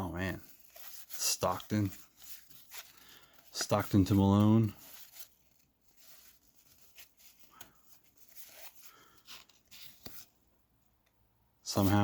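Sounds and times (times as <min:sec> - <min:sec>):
cardboard cards being flipped: 0:00.3 - 0:10.4.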